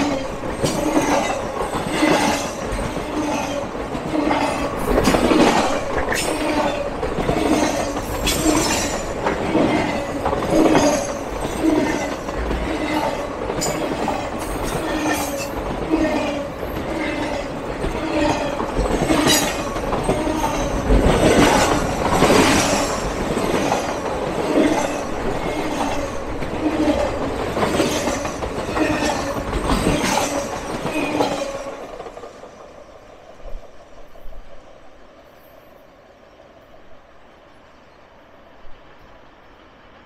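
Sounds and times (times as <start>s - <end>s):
train wheels rumbling and clanking: 0.0s - 34.6s.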